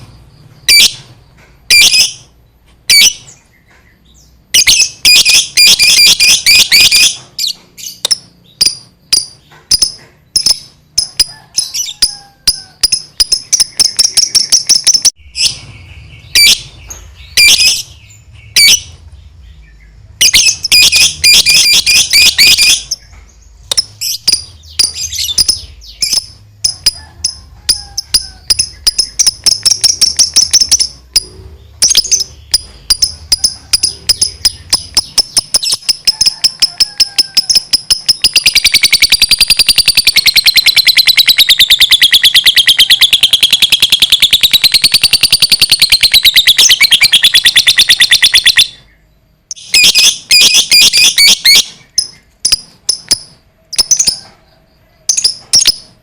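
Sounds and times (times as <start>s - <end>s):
lovebird chirping and trilling: 0.0s - 56.0s.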